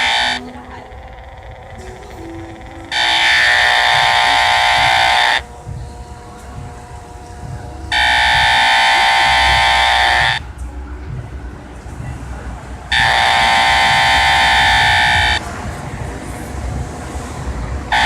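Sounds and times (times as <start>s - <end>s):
faint hum: 0.0s - 18.0s
loud electronic buzz: 0.0s - 18.0s.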